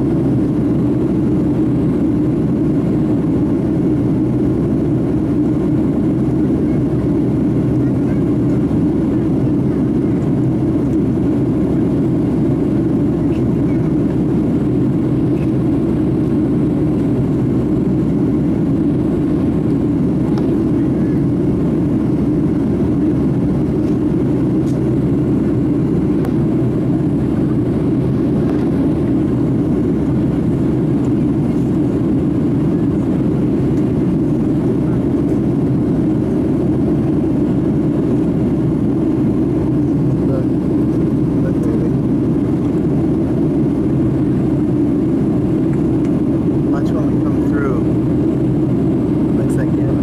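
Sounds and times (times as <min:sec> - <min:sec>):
jet engine cabin rumble: 0:00.0 - 0:50.0.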